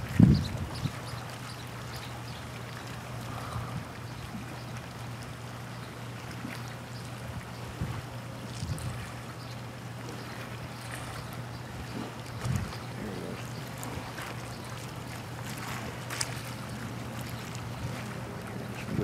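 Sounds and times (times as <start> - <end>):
constant low hum: 0.0 - 19.0
light wind: 0.0 - 19.0
small waves lapping: 0.0 - 19.0.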